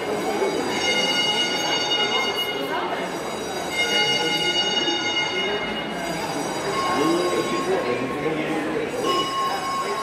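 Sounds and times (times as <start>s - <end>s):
crowd noise: 0.0s - 10.0s
fire alarm tone: 0.0s - 10.0s.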